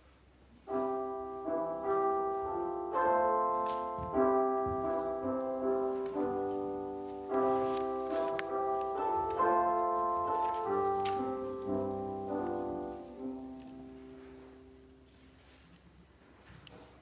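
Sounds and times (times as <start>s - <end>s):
piano playing slow chords: 0.6s - 15.5s.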